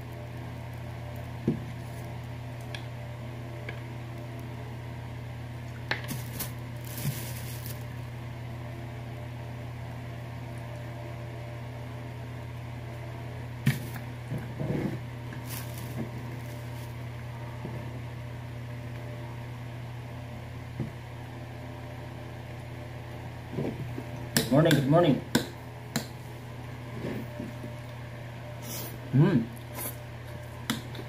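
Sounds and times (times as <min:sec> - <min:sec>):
electric fan motor humming: 0:00.0 - 0:31.0.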